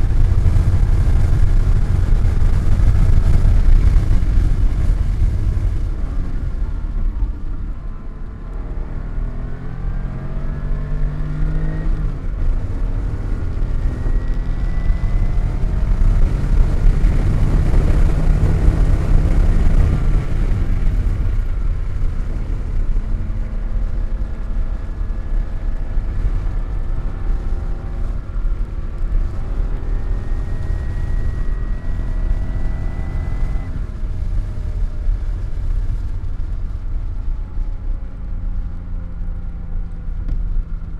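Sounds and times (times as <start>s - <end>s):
car engine accelerating hard: 0.0s - 40.9s
wind and road noise: 0.0s - 40.9s.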